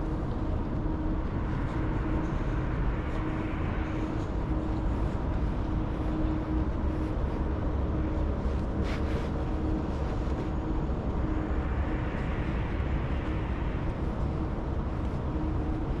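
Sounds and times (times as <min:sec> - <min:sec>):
faint wavering hum: 0:00.0 - 0:16.0.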